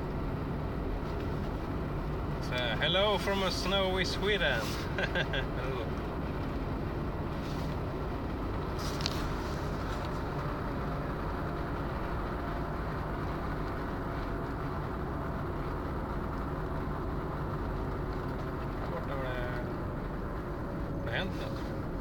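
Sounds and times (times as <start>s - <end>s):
vehicle rumble from inside cabin: 0.0s - 22.0s.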